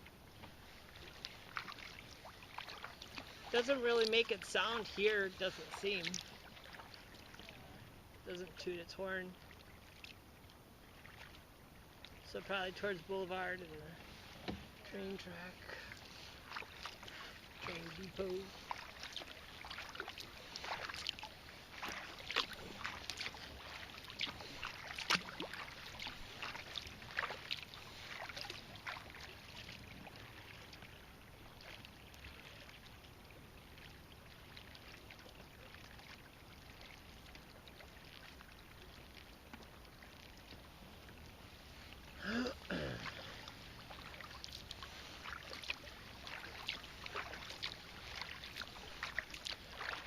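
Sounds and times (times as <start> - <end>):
paddles splashing in water: 0.0 - 50.0
water dripping off paddles: 0.1 - 50.0.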